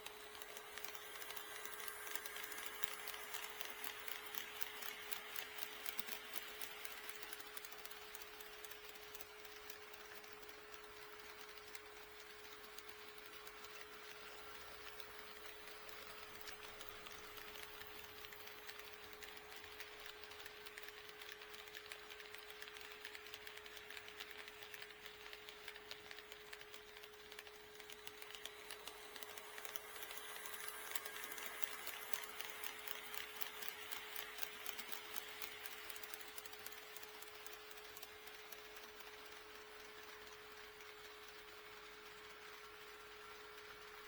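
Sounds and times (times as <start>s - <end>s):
model train wheels ticking: 0.0s - 44.0s.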